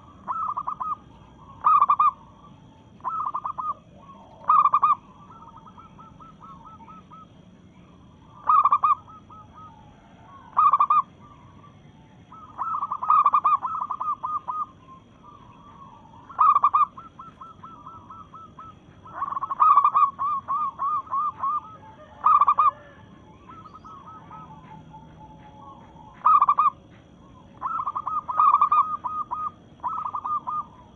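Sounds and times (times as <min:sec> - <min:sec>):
dove rolling coos: 0:00.0 - 0:30.9.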